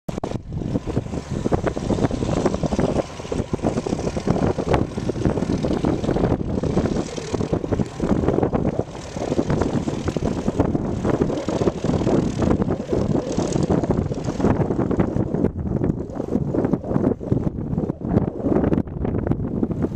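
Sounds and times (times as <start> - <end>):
propeller airplane engine: 0.1 - 19.9.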